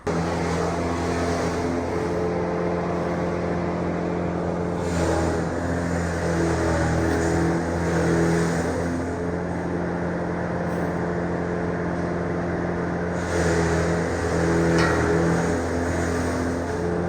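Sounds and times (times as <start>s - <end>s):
farm machine motor running: 0.0s - 17.0s.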